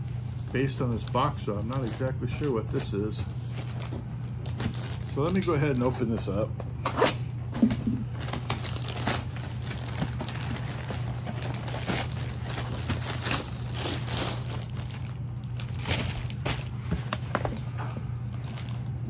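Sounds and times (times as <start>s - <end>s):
steady low hum: 0.0s - 19.0s
plastic bag crinkling: 0.4s - 6.3s, 7.6s - 17.4s, 18.2s - 19.0s.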